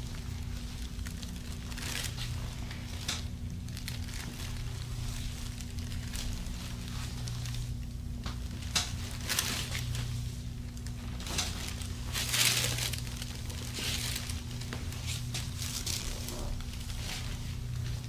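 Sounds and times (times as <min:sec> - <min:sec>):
cloth rustling and crinkling: 0:00.0 - 0:18.0
steady low hum: 0:00.0 - 0:18.0.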